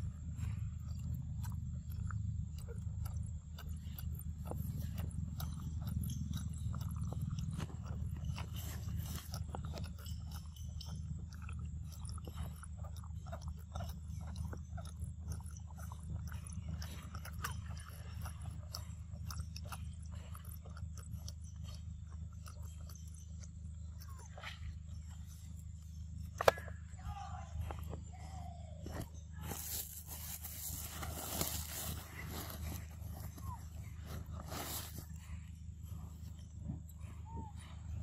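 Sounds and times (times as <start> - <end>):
monkey chewing a drink carton: 0.0 - 38.0
steady low hum: 0.0 - 38.0.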